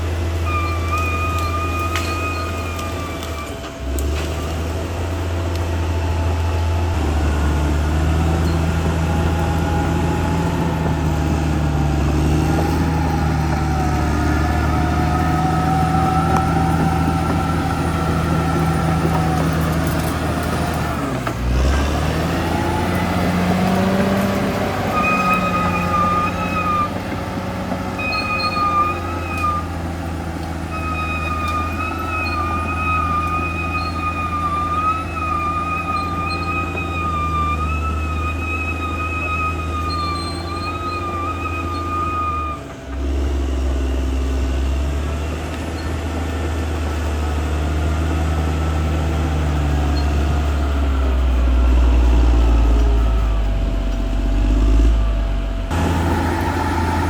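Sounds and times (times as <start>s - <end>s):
wavering high-pitched squeal: 0.0s - 43.2s, 49.0s - 57.0s
bulldozer diesel engine: 0.0s - 57.0s.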